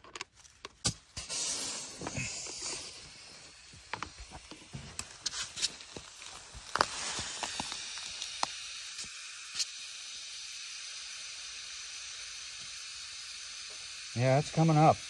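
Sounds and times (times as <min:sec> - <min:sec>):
compressed air hissing into tire: 0:00.8 - 0:15.0.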